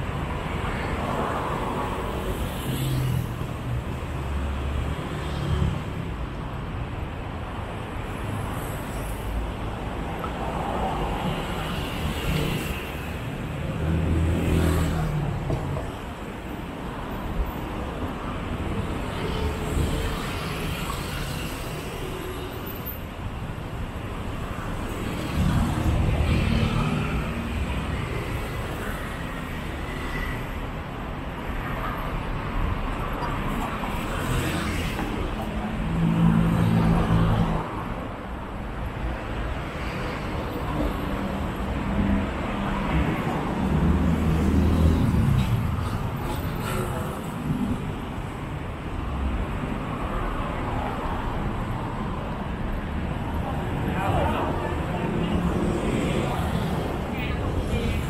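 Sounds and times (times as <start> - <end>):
traffic hum and road noise: 0.0 - 58.0.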